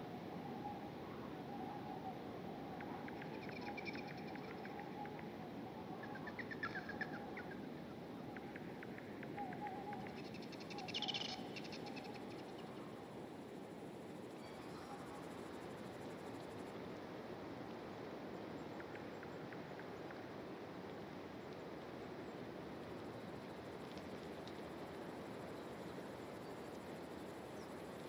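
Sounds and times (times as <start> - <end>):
faint background hiss: 0.0 - 28.0.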